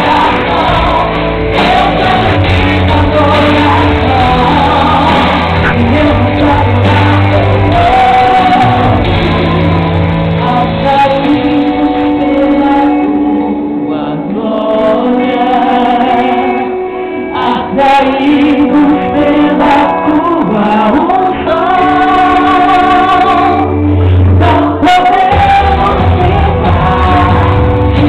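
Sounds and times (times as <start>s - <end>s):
backing music: 0.0s - 28.0s
woman singing into microphone: 0.0s - 28.0s.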